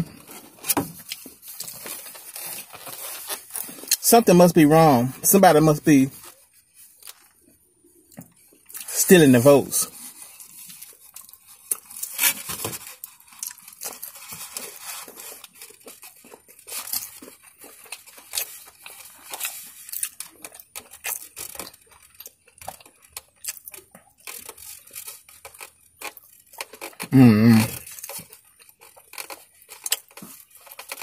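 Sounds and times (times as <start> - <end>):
crunching fried chicken: 0.0 - 31.0.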